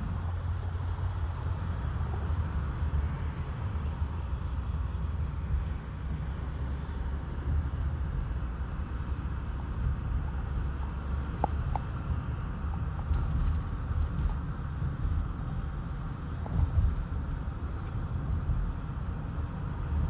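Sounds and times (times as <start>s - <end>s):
car driving on highway: 0.0s - 20.0s.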